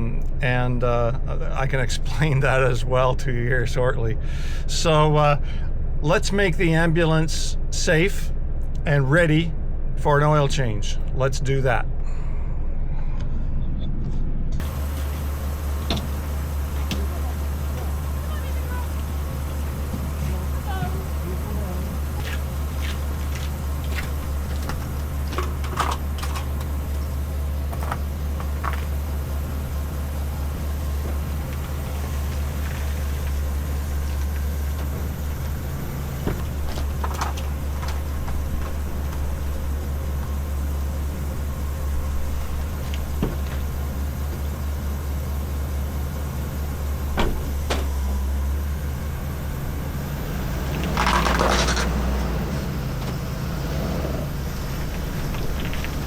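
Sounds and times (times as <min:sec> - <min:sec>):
ambulance engine idling: 0:00.0 - 0:13.3, 0:14.0 - 0:56.0.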